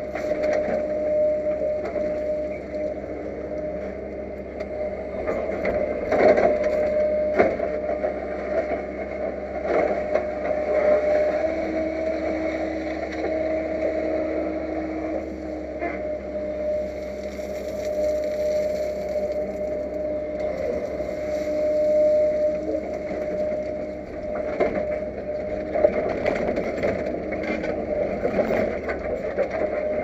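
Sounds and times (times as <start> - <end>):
excavator engine and hydraulic whine: 0.0 - 30.0.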